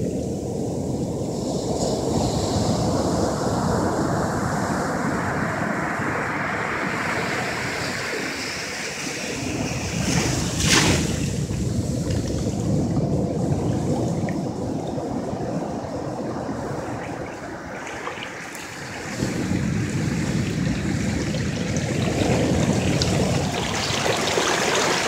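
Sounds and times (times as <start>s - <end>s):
ocean surf washing: 0.0s - 25.0s
wind buffeting microphone: 0.0s - 25.0s.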